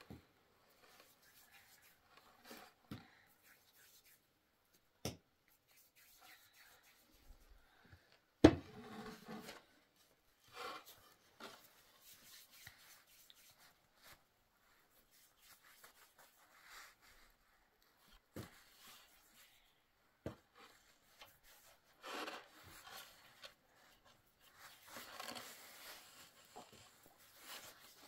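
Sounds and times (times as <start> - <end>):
rubbing or rustling: 0.7 - 4.4, 5.5 - 7.6, 8.8 - 19.6, 20.5 - 28.0.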